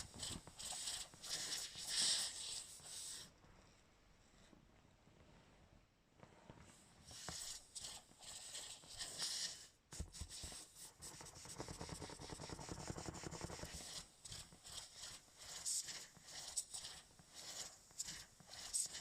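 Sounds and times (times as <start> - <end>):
rubbing on vinyl ball: 0.0 - 3.3, 7.0 - 19.0.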